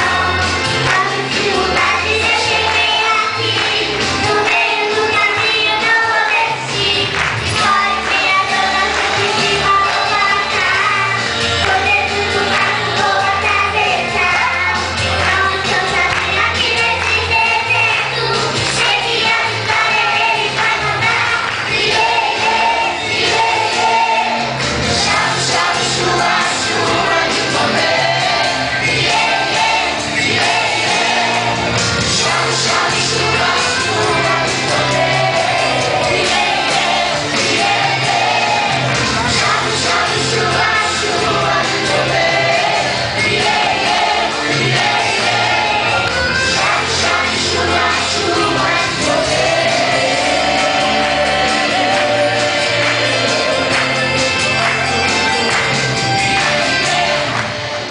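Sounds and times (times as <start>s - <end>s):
backing music with bass line: 0.0s - 57.9s
children's choir singing a hymn: 0.0s - 57.9s.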